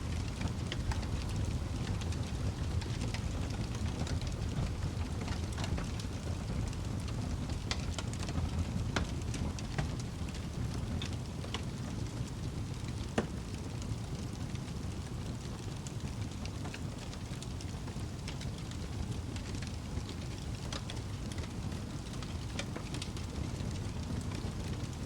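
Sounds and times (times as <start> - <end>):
fire flames rumbling: 0.0 - 25.0
logs crackling and popping: 0.0 - 25.0.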